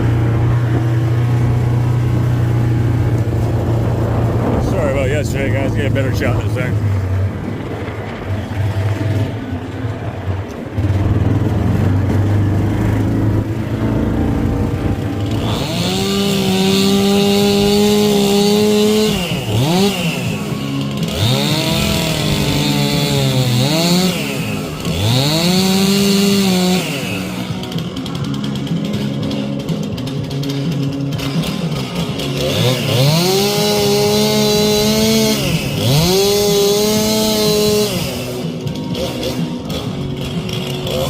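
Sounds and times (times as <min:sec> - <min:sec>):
chainsaw at full throttle: 0:00.0 - 0:07.3, 0:10.8 - 0:41.0.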